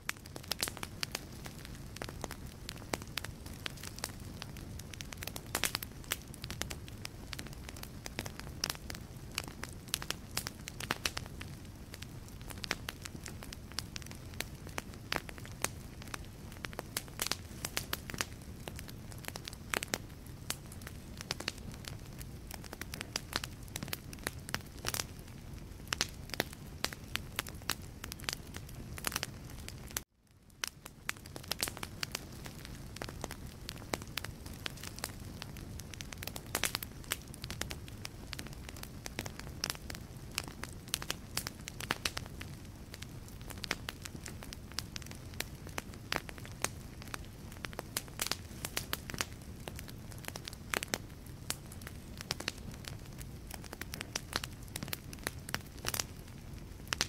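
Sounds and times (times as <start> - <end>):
fire crackling and popping: 0.0 - 57.0
low rumble of flame: 0.0 - 57.0.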